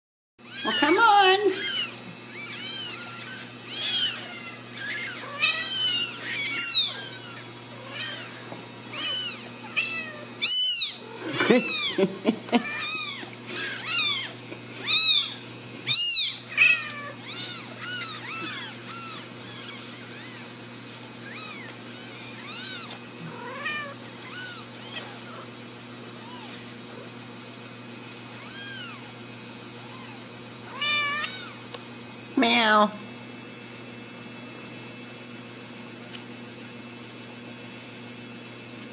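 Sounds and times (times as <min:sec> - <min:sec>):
kittens mewing: 0:00.4 - 0:31.7.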